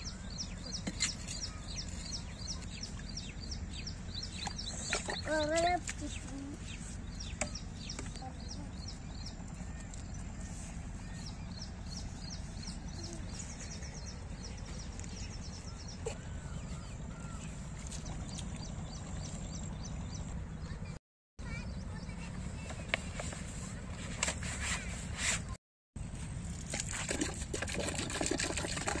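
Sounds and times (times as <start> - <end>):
small birds chirping: 0.0 - 23.5.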